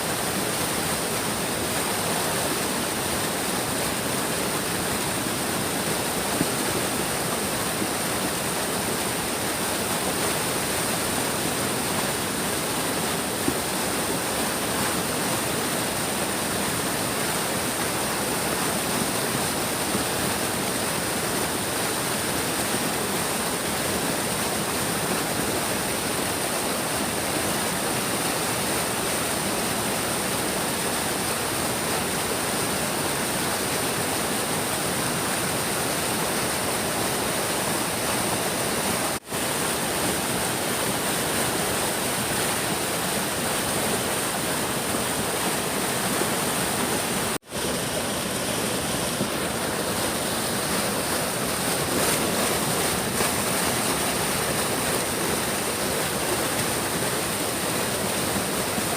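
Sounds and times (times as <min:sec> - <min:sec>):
stream flowing: 0:00.0 - 0:58.9.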